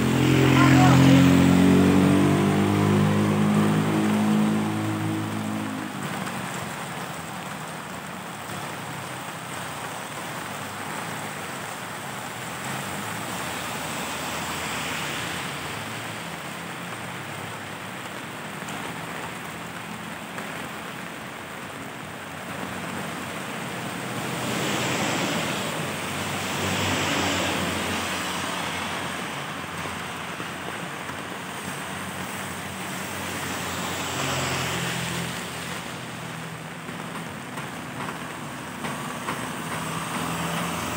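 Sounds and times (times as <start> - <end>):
rain falling on pavement: 0.0 - 40.9
vehicles passing on wet road: 0.0 - 40.9.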